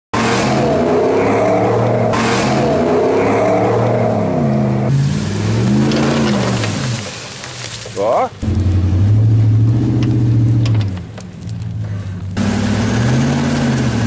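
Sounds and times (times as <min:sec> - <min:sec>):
truck engines revving: 0:00.1 - 0:14.0.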